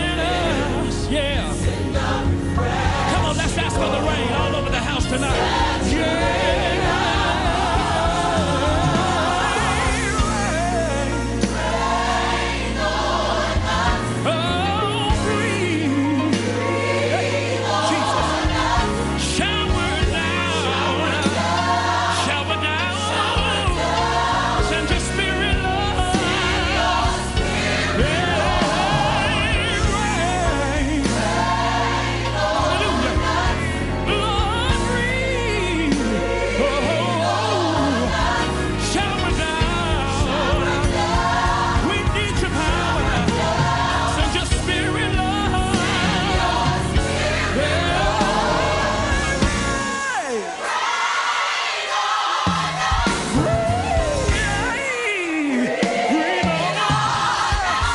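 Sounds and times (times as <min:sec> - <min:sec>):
bass and keyboard chords: 0:00.0 - 0:50.4, 0:52.5 - 0:57.9
choir singing gospel: 0:00.0 - 0:57.9.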